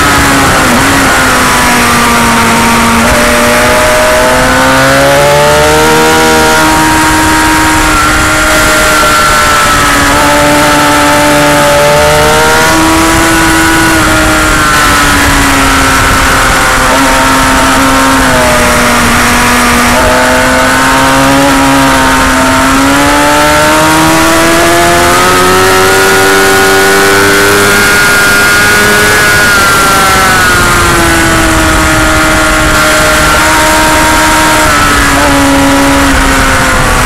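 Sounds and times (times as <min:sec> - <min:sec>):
motorcycle engine: 0:00.0 - 0:37.0
wind rush on microphone: 0:00.0 - 0:37.0.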